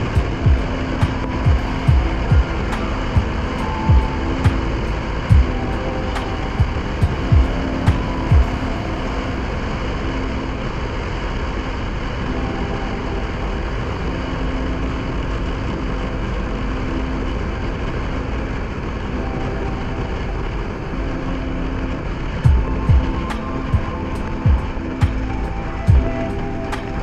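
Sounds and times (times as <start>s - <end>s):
wind rush on microphone: 0.0s - 27.0s.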